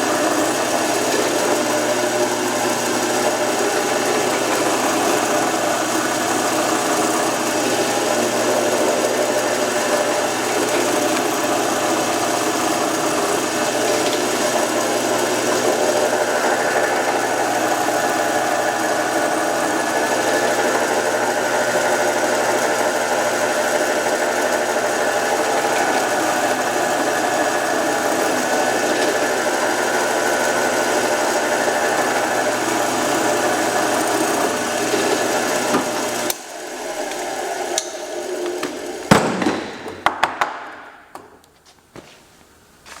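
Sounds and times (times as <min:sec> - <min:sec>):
power tool motor whine: 0:00.0 - 0:39.8.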